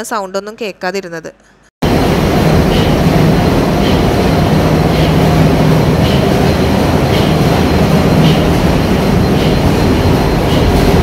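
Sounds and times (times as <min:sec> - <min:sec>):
engine room machinery din: 0:01.8 - 0:11.0
low hum: 0:01.8 - 0:11.0.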